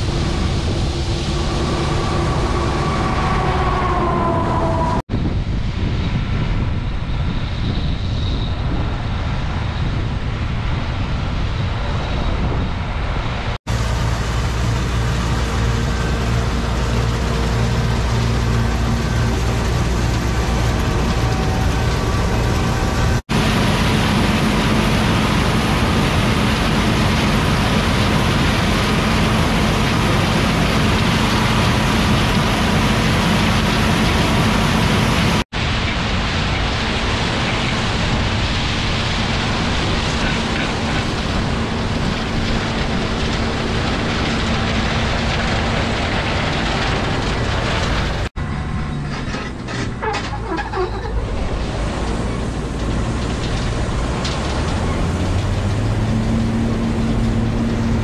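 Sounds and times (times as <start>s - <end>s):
combine harvester droning: 0.0s - 7.6s, 8.2s - 58.0s.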